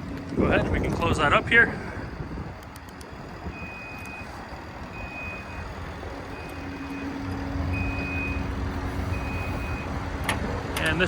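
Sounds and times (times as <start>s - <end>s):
truck engine rumble: 0.0s - 11.0s
reversing alarm beeping: 1.0s - 10.2s.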